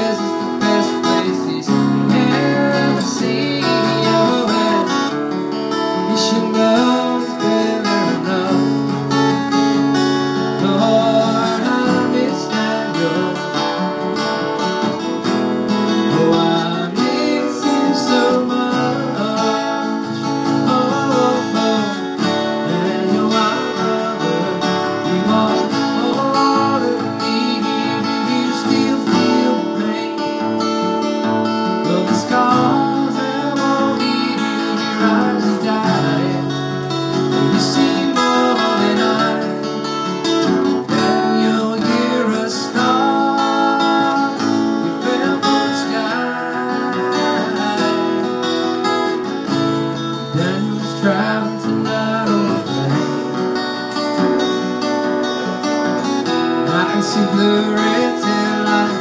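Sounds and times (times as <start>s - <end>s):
acoustic guitar strumming chords: 0.0s - 59.0s.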